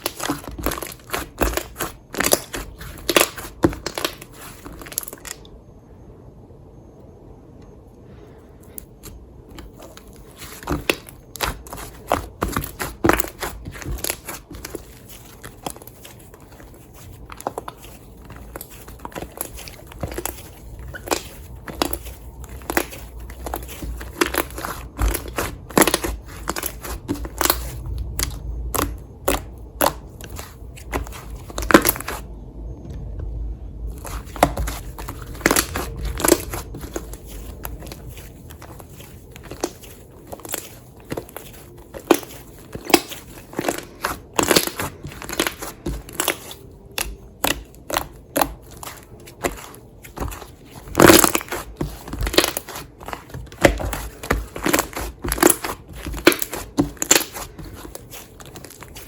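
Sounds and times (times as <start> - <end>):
slime squished by hand: 0.0 - 5.5, 8.8 - 32.2, 33.9 - 59.0.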